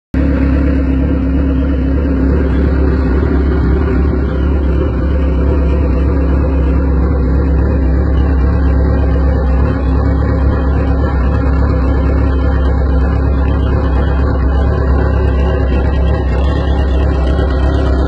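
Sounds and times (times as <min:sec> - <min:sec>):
motorcycle engine idling: 0:00.2 - 0:18.0.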